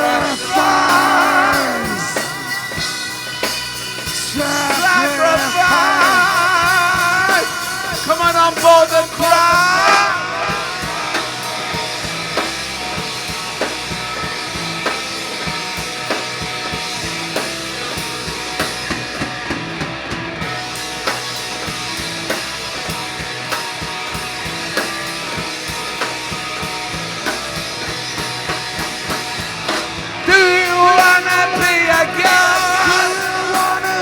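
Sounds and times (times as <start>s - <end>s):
instrumental rock music: 0.0s - 34.0s.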